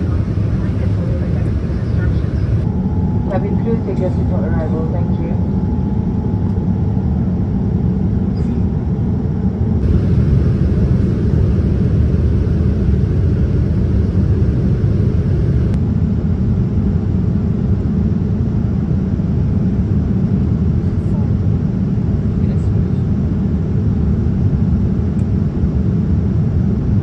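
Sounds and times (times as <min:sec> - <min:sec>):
airliner cabin roar: 0:00.0 - 0:27.0.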